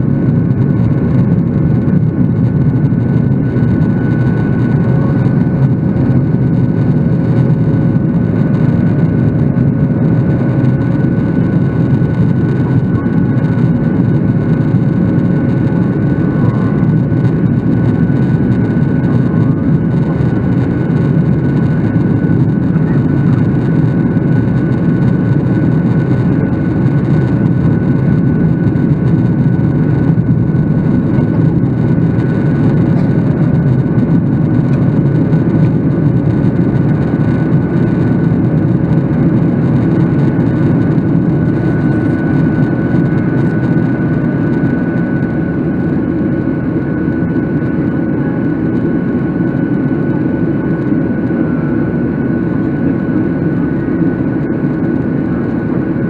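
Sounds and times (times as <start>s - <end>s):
jet engine and airflow roar: 0.0s - 56.0s.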